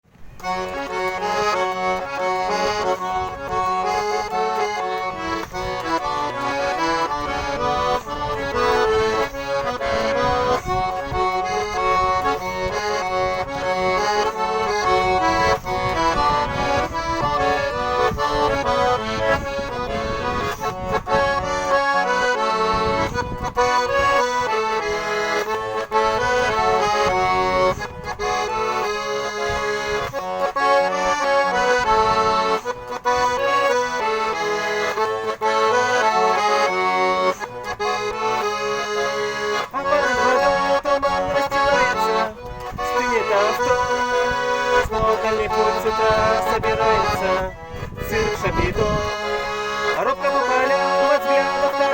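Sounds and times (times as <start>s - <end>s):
button accordion playing briskly: 0.1s - 51.9s.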